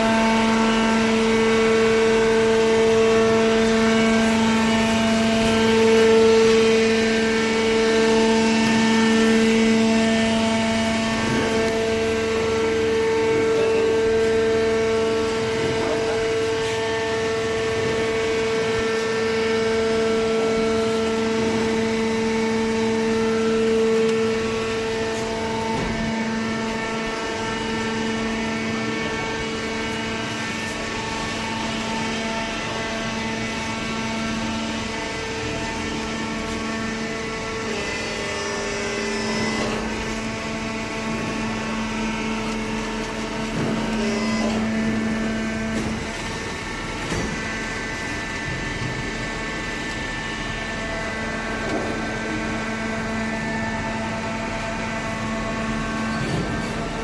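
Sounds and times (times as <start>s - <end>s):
baling press machine hum: 0.0s - 57.0s.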